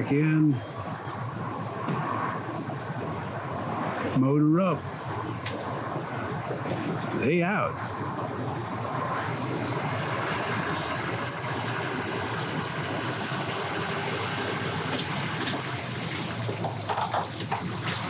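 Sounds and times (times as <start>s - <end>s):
background rush: 0.0s - 18.0s.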